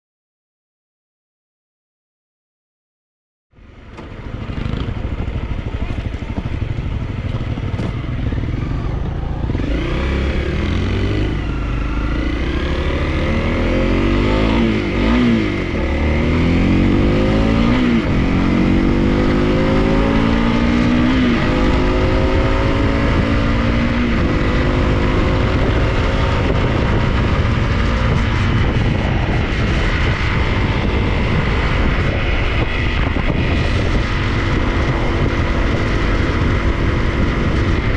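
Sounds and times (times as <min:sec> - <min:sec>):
low rumble: 0:03.6 - 0:37.9
motorcycle engine accelerating: 0:03.6 - 0:37.9.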